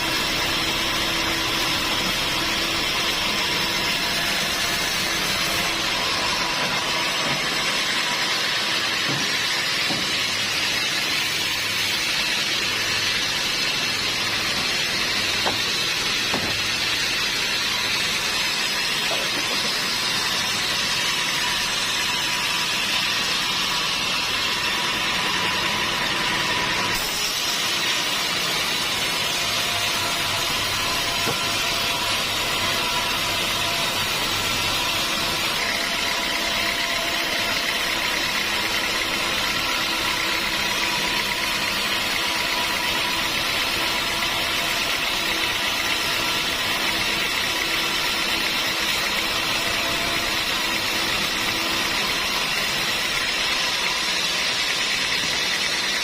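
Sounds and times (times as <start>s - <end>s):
sawmill machinery drone: 0.0s - 56.0s.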